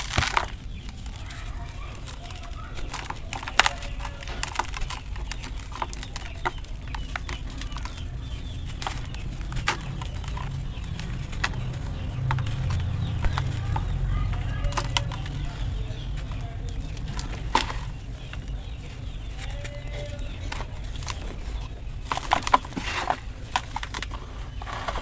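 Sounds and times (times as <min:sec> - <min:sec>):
dry chunks crunching and crumbling: 0:00.0 - 0:25.0.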